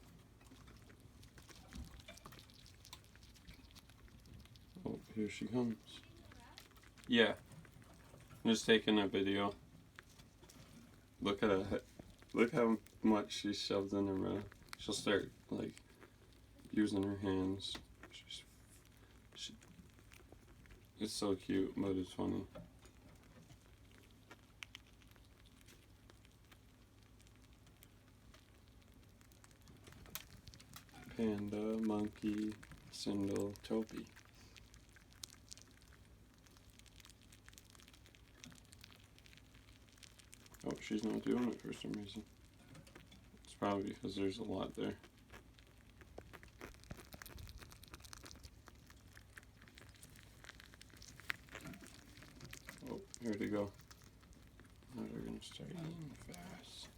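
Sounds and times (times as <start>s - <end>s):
faint rustling: 0.0s - 56.9s
rodents nibbling food: 0.0s - 56.9s.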